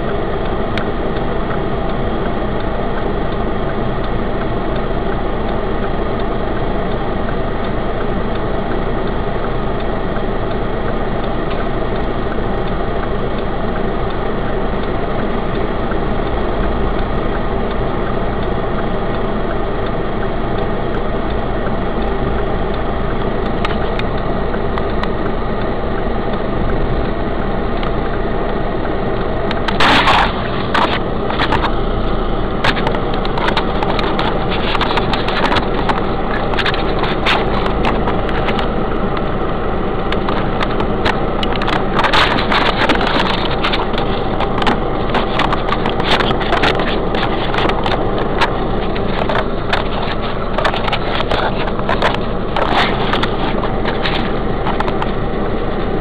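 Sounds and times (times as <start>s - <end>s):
car engine humming: 0.0s - 56.0s
sharp crackles and pops: 0.0s - 56.0s.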